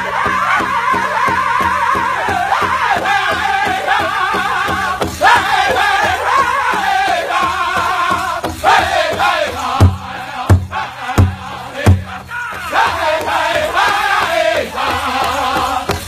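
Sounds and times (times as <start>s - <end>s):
big drum beat: 0.0s - 16.0s
men singing high wavering: 0.0s - 16.0s.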